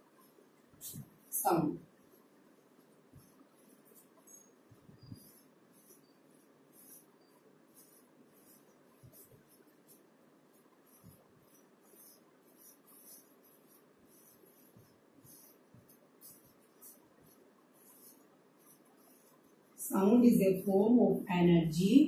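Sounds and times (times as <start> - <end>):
marker pen writing on whiteboard: 0.0 - 21.1.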